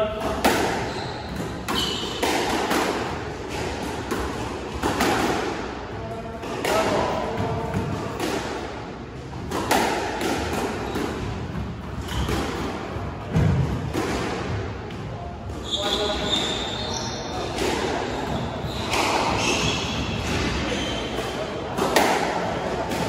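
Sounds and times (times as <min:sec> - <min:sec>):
squash ball hitting rackets and walls: 0:00.0 - 0:23.0.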